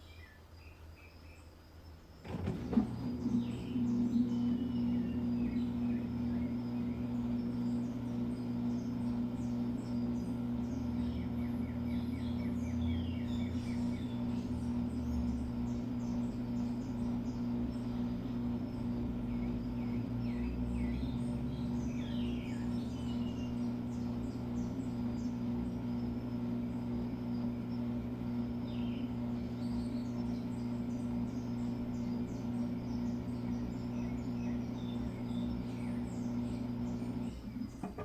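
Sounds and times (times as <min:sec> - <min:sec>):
birds chirping: 0:00.0 - 0:38.0
washing machine running: 0:02.2 - 0:38.0.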